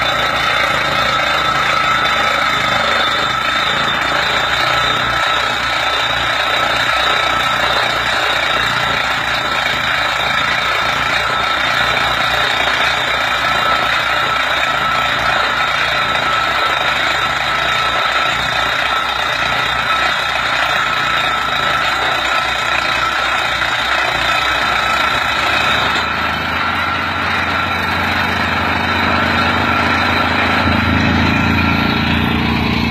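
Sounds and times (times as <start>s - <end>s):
drilling rig fast rattle: 0.0s - 32.9s
tractor engine running: 0.0s - 32.9s.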